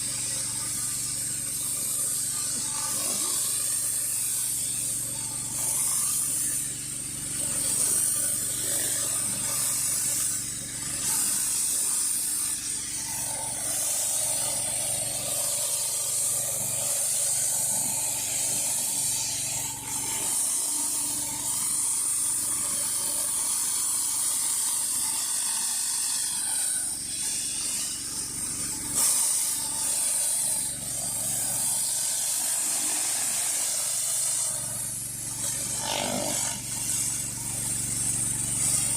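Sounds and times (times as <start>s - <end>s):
high-pressure water spraying: 0.0s - 38.9s
pressure washer engine running: 0.0s - 38.9s.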